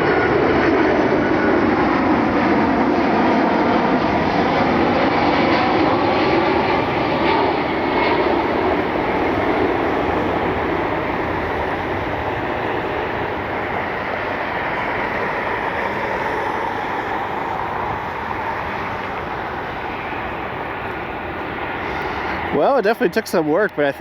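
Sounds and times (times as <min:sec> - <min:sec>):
jet engines passing: 0:00.0 - 0:24.0.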